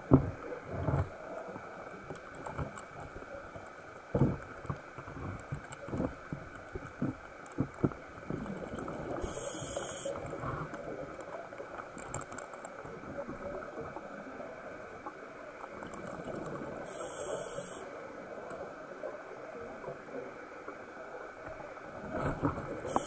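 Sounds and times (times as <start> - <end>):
underwater rushing water: 0.0 - 23.0.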